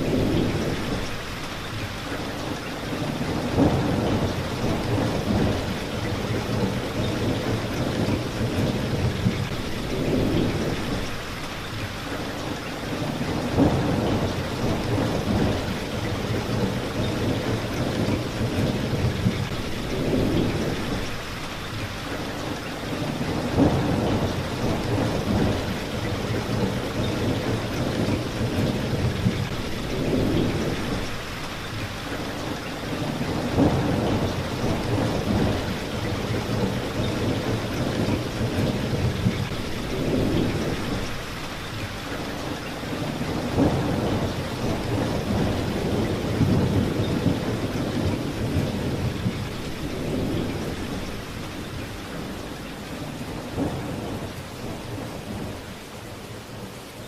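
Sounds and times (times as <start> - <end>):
rolling thunder: 0.0 - 1.3, 2.9 - 11.3, 12.9 - 21.8, 22.9 - 56.8
rain falling on street: 0.0 - 57.0.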